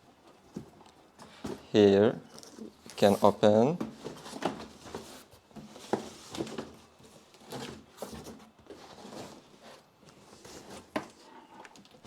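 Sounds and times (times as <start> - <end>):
packaging box rustling and scraping: 2.3 - 12.0.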